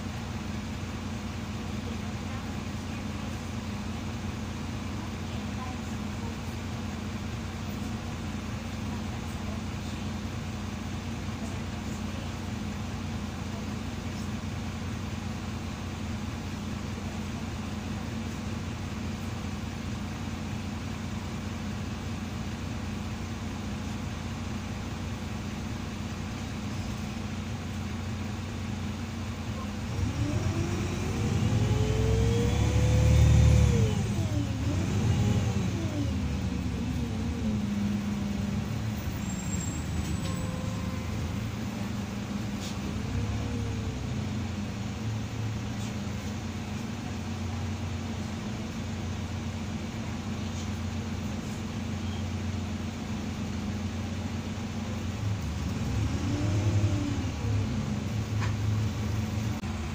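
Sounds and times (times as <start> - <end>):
bus engine: 0.0 - 59.9.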